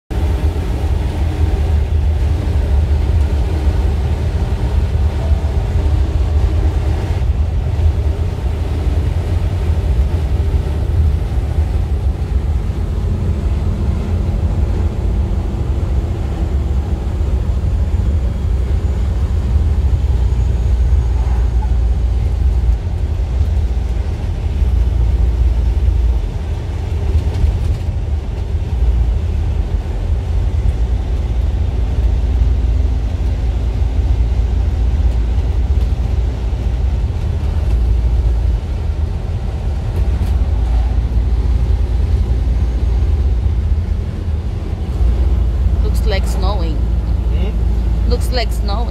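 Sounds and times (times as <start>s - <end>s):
truck engine and tyres rumbling: 0.1s - 48.9s.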